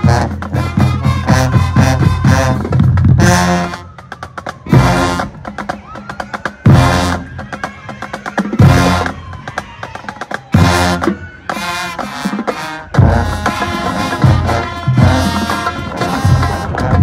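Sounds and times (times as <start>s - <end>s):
drumline tapping a rhythm: 0.0s - 17.0s
marching band brass chords: 0.0s - 17.0s.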